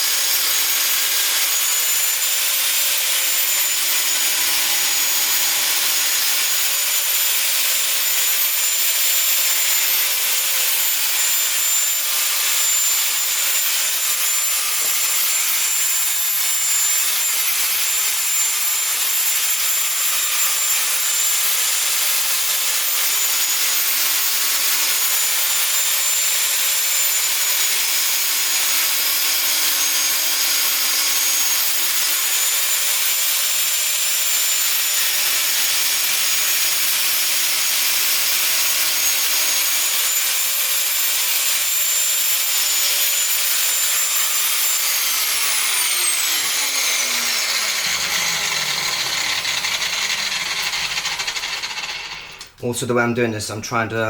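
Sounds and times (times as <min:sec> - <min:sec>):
angle grinder cutting plastic: 0:00.0 - 0:52.7.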